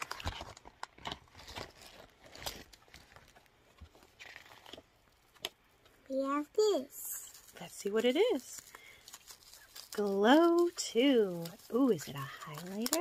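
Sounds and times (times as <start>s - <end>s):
makeup bag rustling and crinkling: 0.0s - 5.7s, 6.6s - 13.0s.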